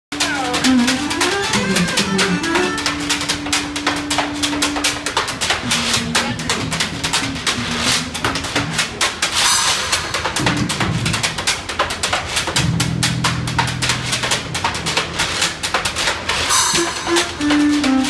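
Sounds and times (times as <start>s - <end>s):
jazz band playing: 0.1s - 18.0s
steady drum beat: 0.1s - 18.0s.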